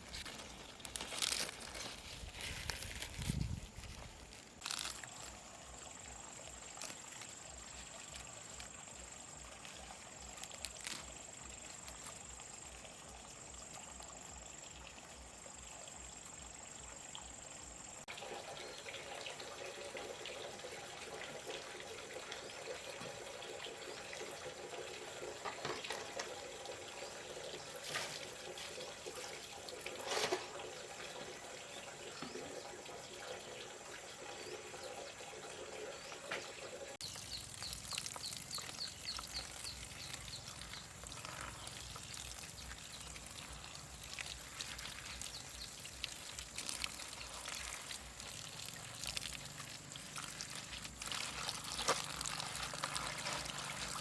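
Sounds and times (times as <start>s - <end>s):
water trickling from bamboo pipe: 0.0s - 54.0s.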